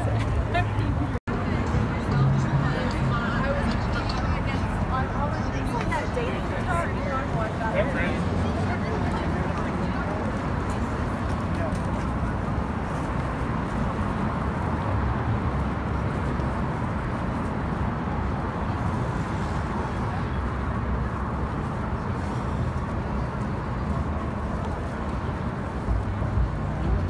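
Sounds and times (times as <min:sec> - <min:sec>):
murmur of crowd voices: 0:00.0 - 0:27.0
traffic: 0:00.0 - 0:27.0.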